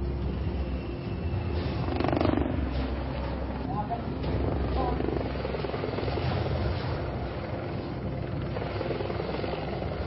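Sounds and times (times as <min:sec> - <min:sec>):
helicopter rotor and turbine engine: 0:00.0 - 0:10.0.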